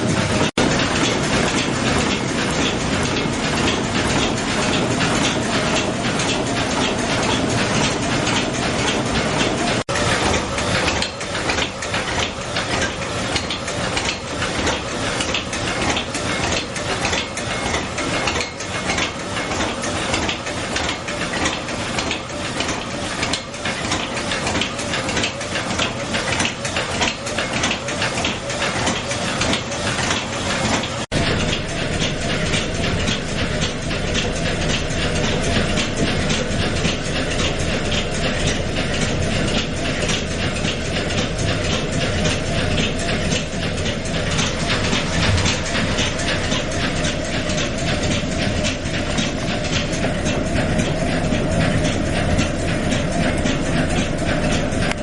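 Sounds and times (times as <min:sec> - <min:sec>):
steam engine clattering: 0:00.0 - 0:55.0.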